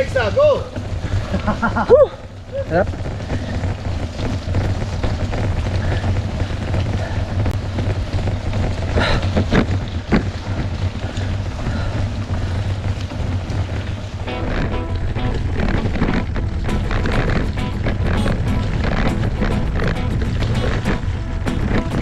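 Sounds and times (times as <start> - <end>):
bike rattling and knocking: 0.0 - 22.0
wind buffeting microphone: 0.0 - 22.0.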